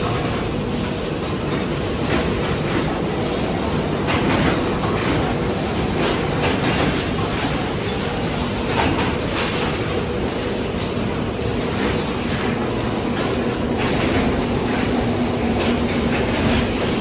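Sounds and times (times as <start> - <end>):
filling machine clattering: 0.0 - 17.0.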